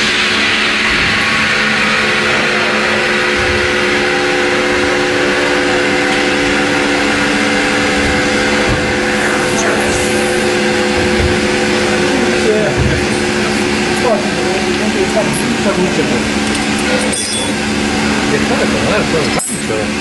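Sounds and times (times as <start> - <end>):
vacuum forming machine hum: 0.0 - 20.0.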